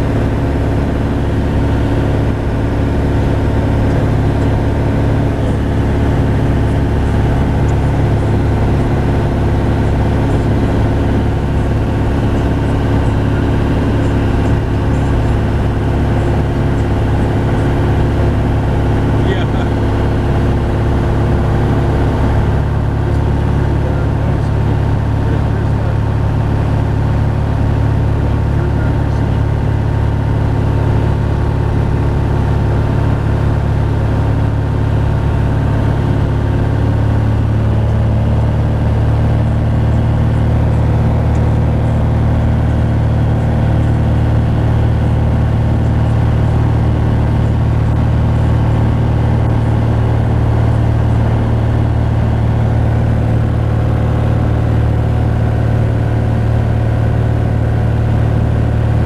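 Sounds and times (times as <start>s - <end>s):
light airplane engine and propeller drone: 0.0s - 59.0s.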